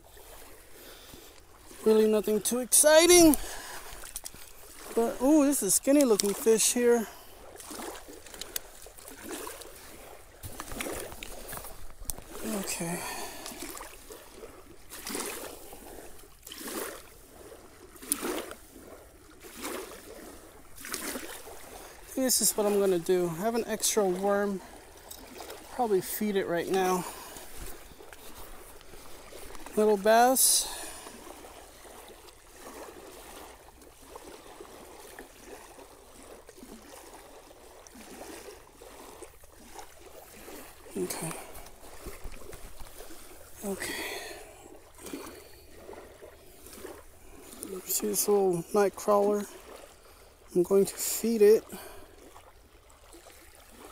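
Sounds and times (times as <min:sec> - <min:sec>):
waves lapping on pebbles: 0:00.0 - 0:53.9.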